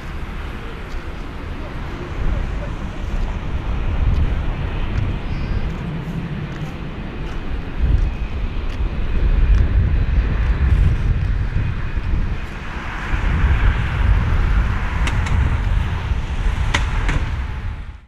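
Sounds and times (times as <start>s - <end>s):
jet engines at takeoff thrust: 0.0s - 18.0s.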